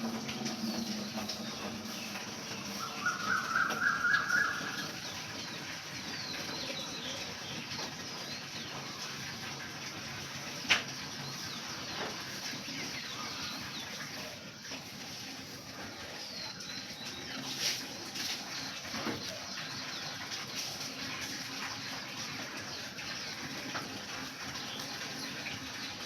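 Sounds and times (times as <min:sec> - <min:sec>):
birds chirping: 0:00.1 - 0:26.0.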